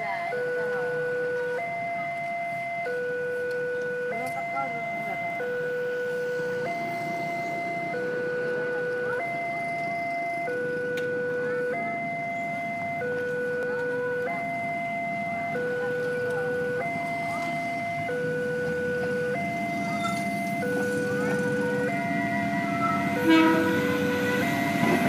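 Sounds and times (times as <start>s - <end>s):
two-tone crossing alarm: 0.0s - 25.0s
motorcycle engines running: 4.7s - 25.0s.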